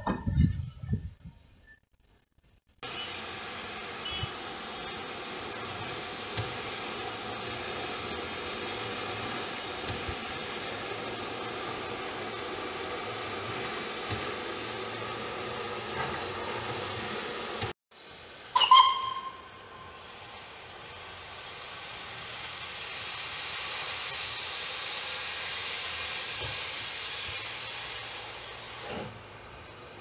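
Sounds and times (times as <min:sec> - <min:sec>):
steam locomotive hissing: 0:02.8 - 0:30.0.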